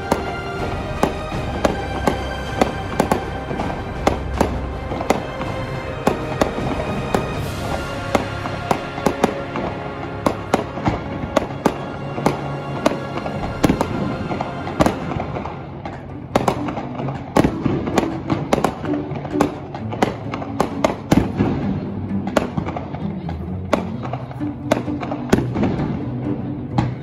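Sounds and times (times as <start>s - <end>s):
fireworks bursting: 0.0s - 23.0s
background music: 0.0s - 27.0s.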